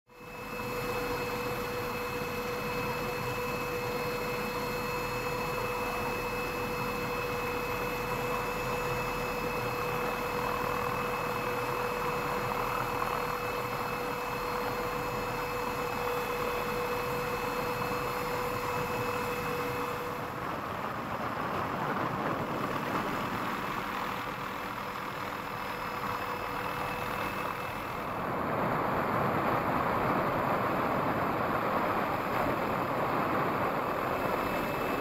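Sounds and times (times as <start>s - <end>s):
engine whine: 0.1s - 35.0s
helicopter cabin noise: 0.1s - 35.0s.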